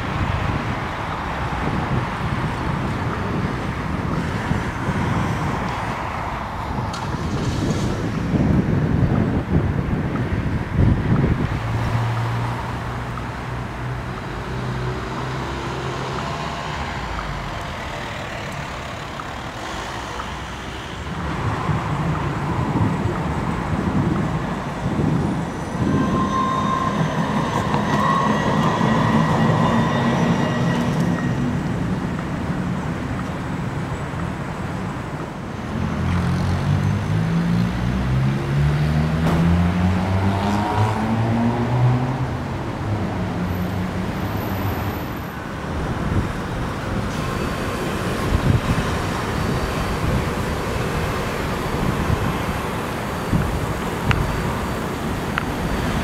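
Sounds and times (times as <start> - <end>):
vehicle engines passing: 0.0 - 56.0.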